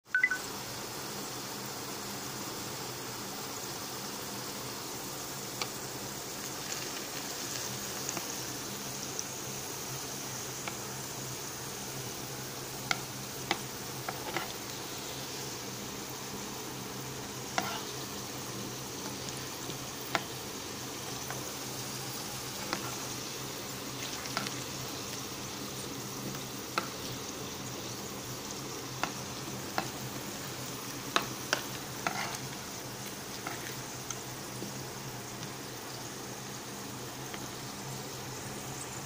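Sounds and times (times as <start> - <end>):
potatoes sizzling in hot oil: 0.1 - 39.0.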